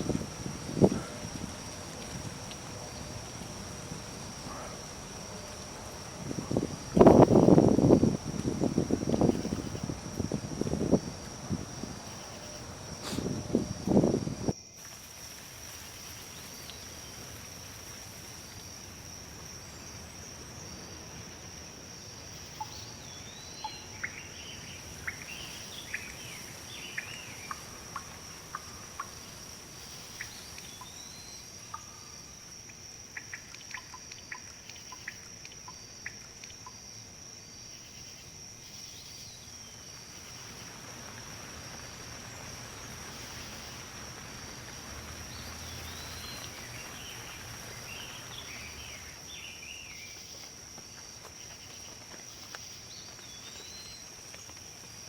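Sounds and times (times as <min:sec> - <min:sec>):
breeze rustling leaves: 0:00.0 - 0:55.0
insect trill: 0:00.0 - 0:55.0.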